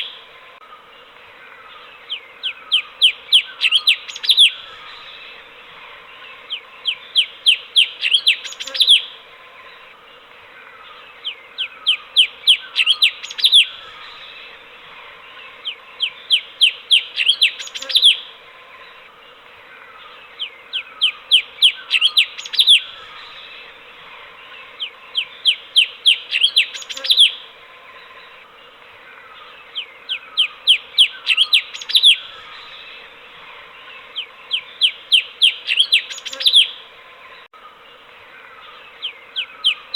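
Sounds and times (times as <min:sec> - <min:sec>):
bulbul singing: 0:01.0 - 0:39.9.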